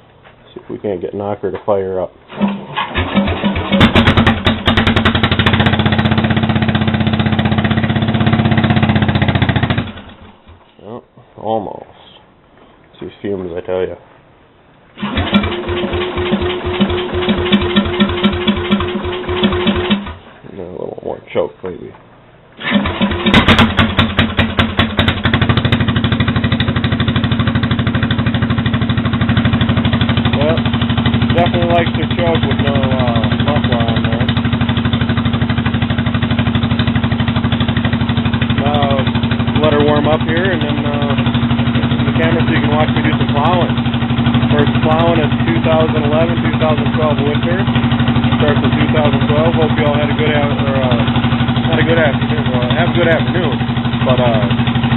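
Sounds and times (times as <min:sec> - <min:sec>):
engine cranking and sputtering: 0:02.3 - 0:10.7, 0:15.0 - 0:20.3, 0:22.6 - 0:54.9.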